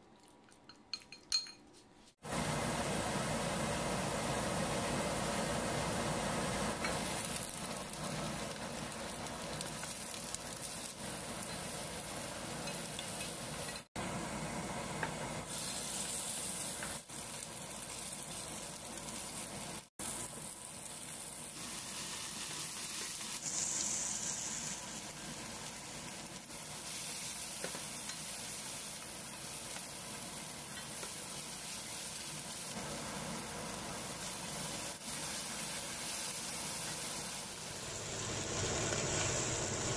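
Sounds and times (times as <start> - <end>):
oil sizzling in a frying pan: 2.3 - 39.9.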